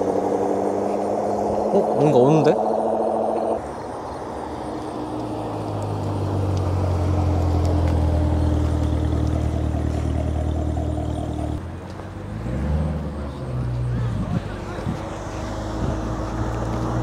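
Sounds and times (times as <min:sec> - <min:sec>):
car engine droning past: 0:00.0 - 0:17.0.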